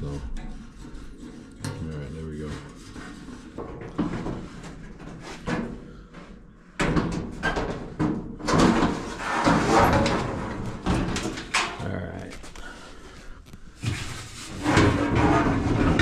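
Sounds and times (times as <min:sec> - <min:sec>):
metal scraping and clattering: 0:00.0 - 0:05.6, 0:07.2 - 0:12.6, 0:13.8 - 0:16.0.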